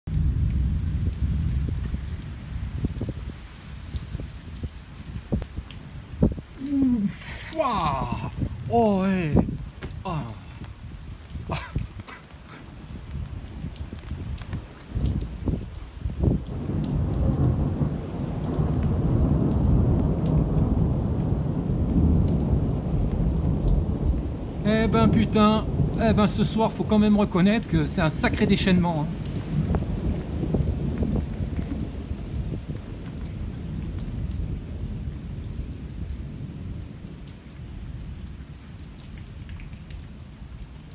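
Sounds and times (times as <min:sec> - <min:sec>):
steady rain: 0:00.0 - 0:40.9
thunder rumbling: 0:00.1 - 0:37.2
raindrops ticking close by: 0:00.1 - 0:40.9.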